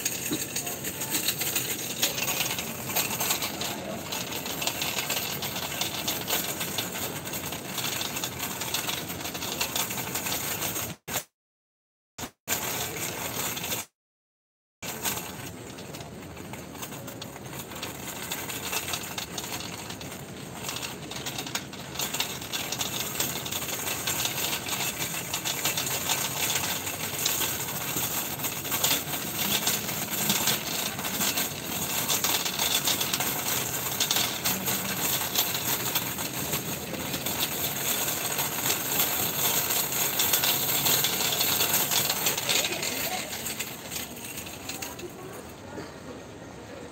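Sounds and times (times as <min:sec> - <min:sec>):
shopping cart rattling on tiles: 0:00.0 - 0:11.2, 0:12.2 - 0:13.9, 0:14.8 - 0:46.0.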